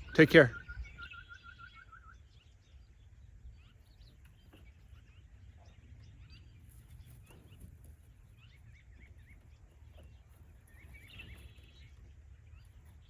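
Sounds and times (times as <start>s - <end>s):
faint bird chirps: 0.0s - 13.0s
low rumble of wind: 0.0s - 13.0s.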